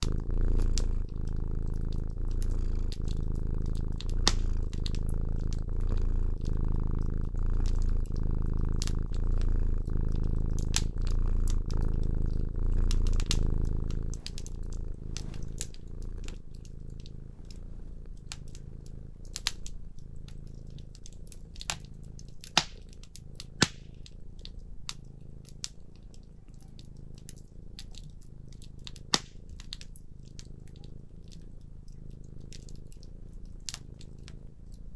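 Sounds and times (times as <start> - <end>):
cat purring: 0.0 - 34.9
wood fire crackling and popping: 0.0 - 34.9.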